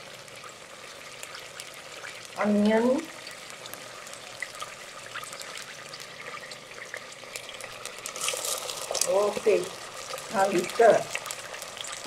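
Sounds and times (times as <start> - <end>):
frying in hot oil sizzling: 0.0 - 12.0.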